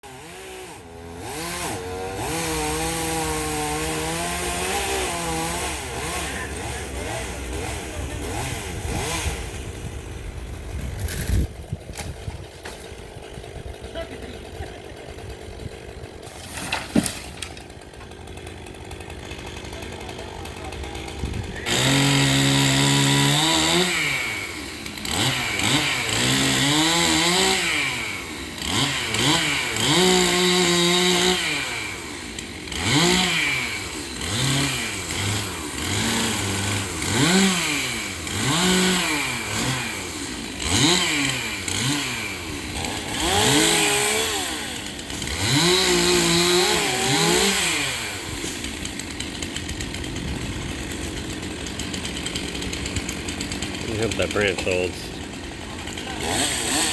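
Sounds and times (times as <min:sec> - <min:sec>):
chainsaw engine revving: 0:00.0 - 0:56.9.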